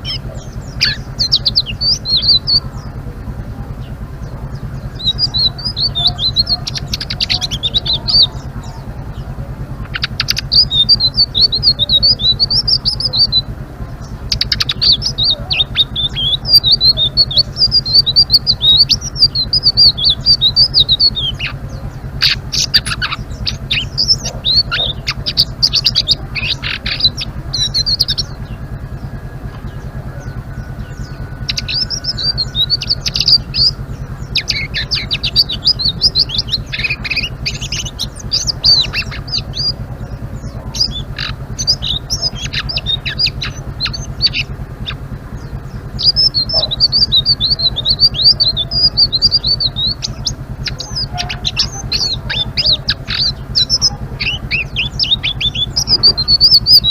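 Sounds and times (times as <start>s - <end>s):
songbird twittering: 0.0s - 56.9s
steady low hum: 0.0s - 56.9s.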